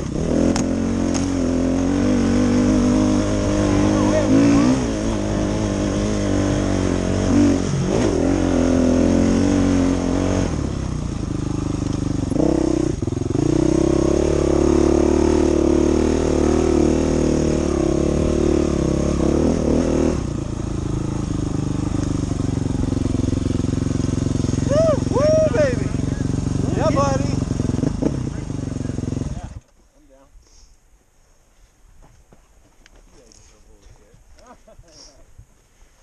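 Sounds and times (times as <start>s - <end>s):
dirt bike engine: 0.0s - 29.8s.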